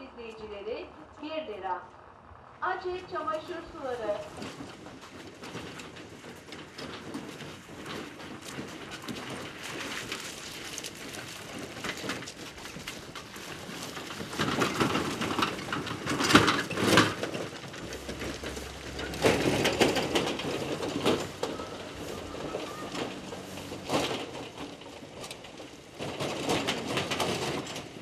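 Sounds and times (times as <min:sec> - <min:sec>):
hooves clopping: 0:00.0 - 0:28.0
wheels crunching over ice: 0:00.0 - 0:28.0.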